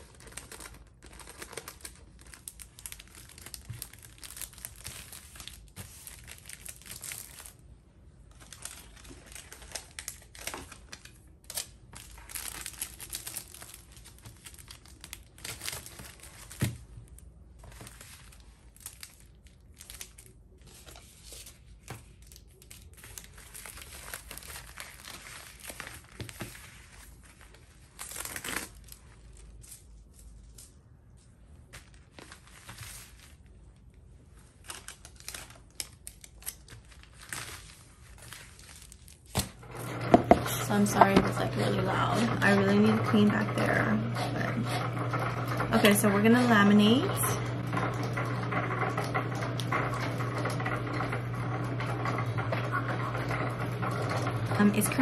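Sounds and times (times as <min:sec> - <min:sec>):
plastic sleeves crinkling: 0:00.0 - 0:48.2.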